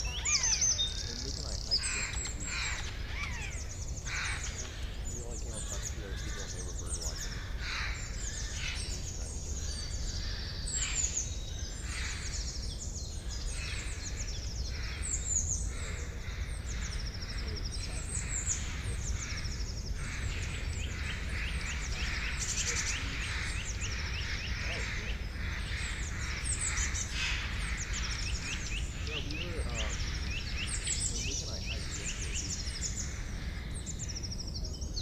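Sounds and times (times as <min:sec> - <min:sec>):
forest birds chirping and trilling: 0:00.0 - 0:35.0.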